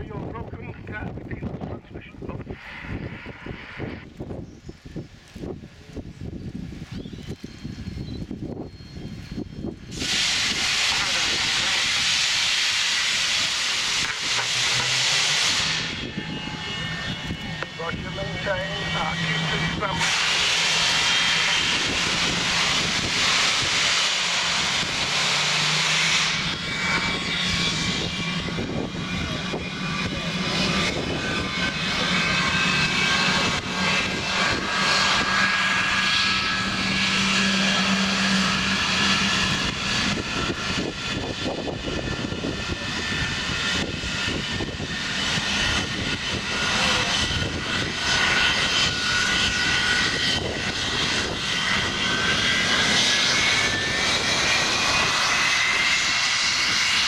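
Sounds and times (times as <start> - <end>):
jet engines rushing and whining: 0.0 - 57.0
low hum: 0.0 - 57.0.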